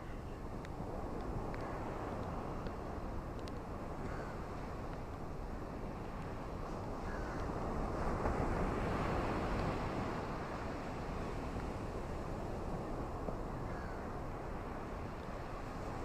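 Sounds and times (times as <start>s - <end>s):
ocean surf: 0.0s - 16.0s
rain on a beach: 0.0s - 16.0s.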